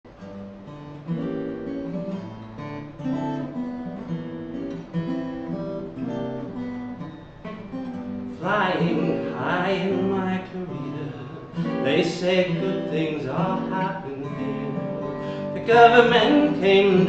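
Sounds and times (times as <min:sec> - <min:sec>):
acoustic guitar strumming chords: 0:00.1 - 0:17.0.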